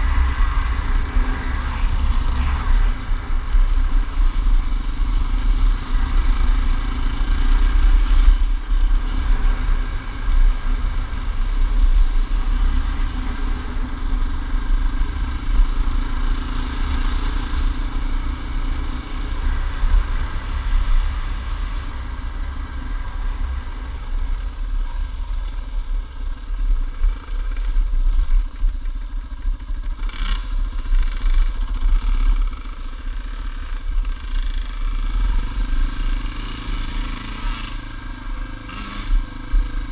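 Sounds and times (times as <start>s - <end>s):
wind rumble on microphone: 0.0s - 32.5s
dirt bike engine running: 0.0s - 39.9s.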